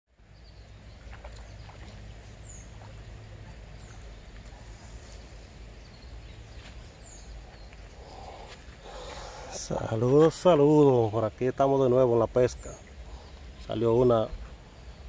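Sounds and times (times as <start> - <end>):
low rumble and hiss: 0.1 - 15.0
high falling bird calls: 0.3 - 15.0.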